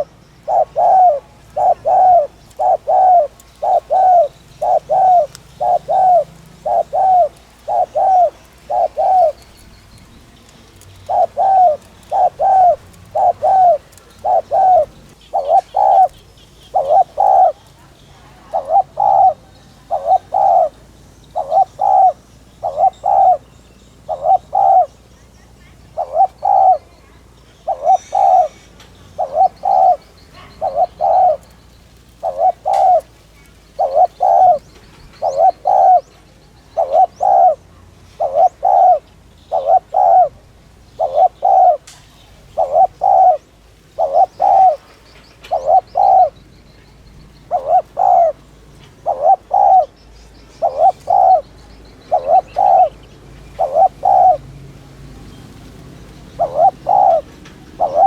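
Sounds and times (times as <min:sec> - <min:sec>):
dove cooing: 0:00.0 - 0:58.0
small birds chirping: 0:00.0 - 0:58.0.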